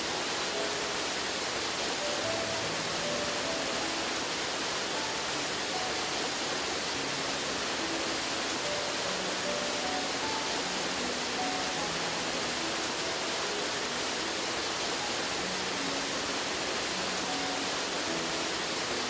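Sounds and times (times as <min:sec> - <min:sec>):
soft background music: 0:00.0 - 0:19.0
waterfall rushing: 0:00.0 - 0:19.0.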